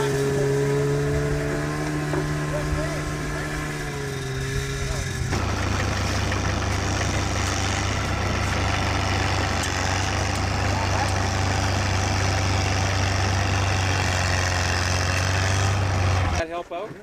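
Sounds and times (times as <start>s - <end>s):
engine idling drone: 0.0s - 16.4s.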